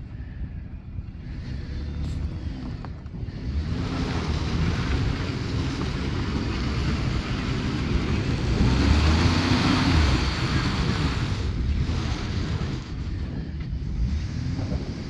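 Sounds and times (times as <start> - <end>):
wind buffeting microphone: 0.0 - 15.0
pickup engine revving: 1.2 - 15.0.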